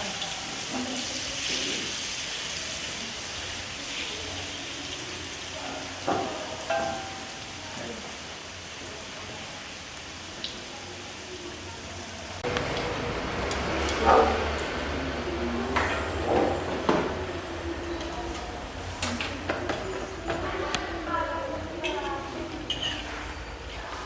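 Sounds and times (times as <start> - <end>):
hot oil sizzling: 0.0 - 24.0.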